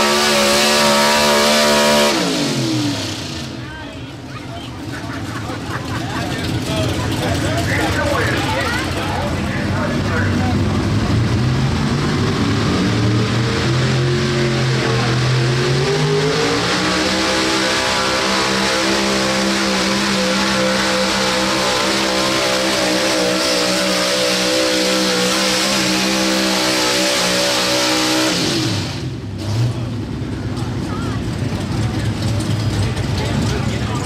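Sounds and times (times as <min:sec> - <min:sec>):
pickup engine at full throttle: 0:00.0 - 0:34.0.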